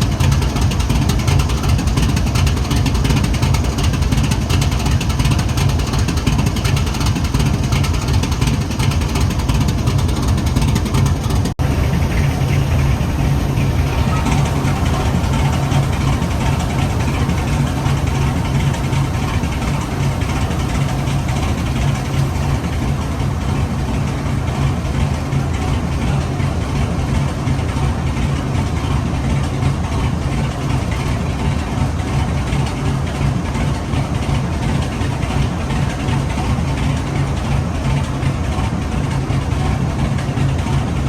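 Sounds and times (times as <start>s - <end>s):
diesel locomotives idling: 0.0s - 41.0s.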